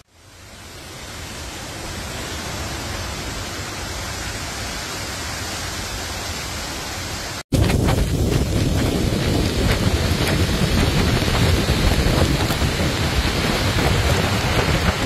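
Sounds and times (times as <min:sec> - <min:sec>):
strong wind through trees: 0:00.0 - 0:15.0.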